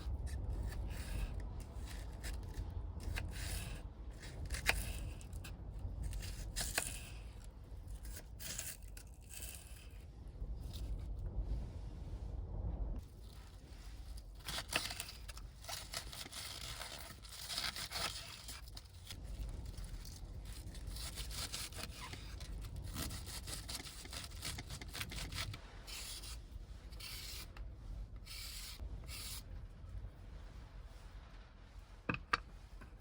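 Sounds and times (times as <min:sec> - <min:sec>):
steady low rumble: 0:00.0 - 0:17.4, 0:18.3 - 0:33.0
rustling and scraping of objects: 0:00.0 - 0:33.0.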